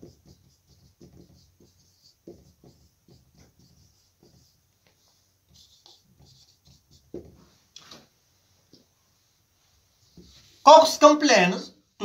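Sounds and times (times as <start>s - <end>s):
marker pen on whiteboard: 0.0s - 11.1s.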